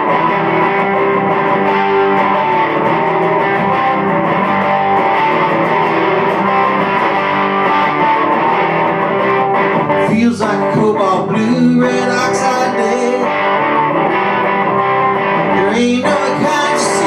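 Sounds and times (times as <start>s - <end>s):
electric guitar playing: 0.0s - 17.0s.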